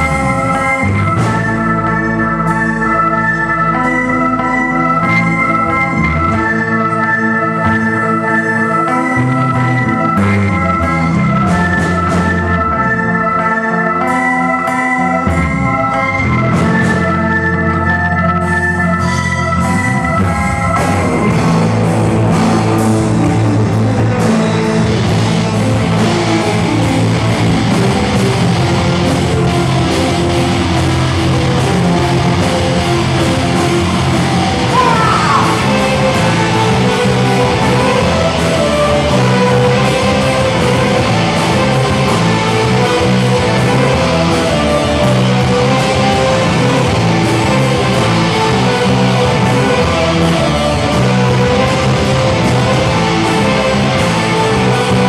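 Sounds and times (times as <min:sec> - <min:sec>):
drums: 0:00.0 - 0:55.0
electric guitars: 0:00.0 - 0:55.0.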